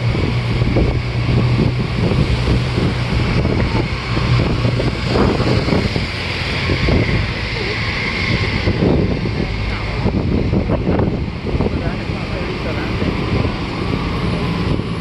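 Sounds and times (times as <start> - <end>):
bus engine drone: 0.0 - 15.0
wind buffeting microphone: 0.0 - 15.0.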